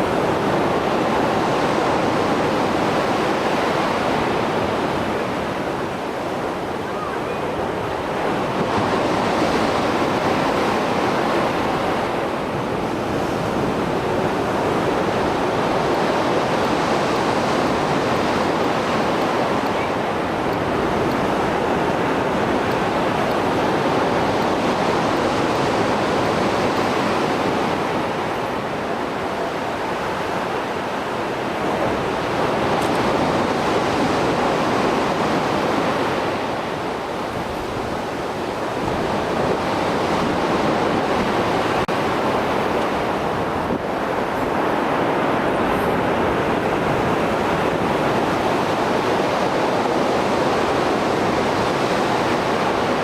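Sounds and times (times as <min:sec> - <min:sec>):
waves breaking on shore: 0:00.0 - 0:53.0.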